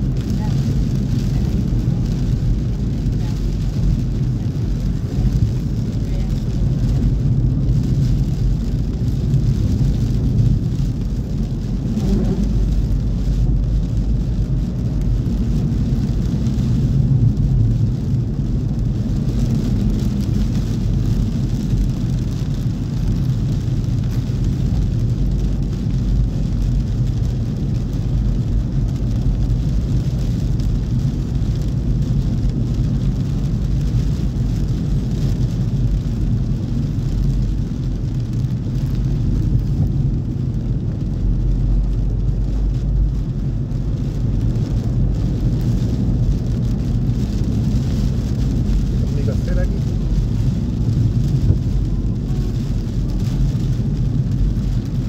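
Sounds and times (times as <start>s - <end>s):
engine and tyre rumble: 0.0s - 55.0s
tyres hissing on wet asphalt: 0.0s - 55.0s.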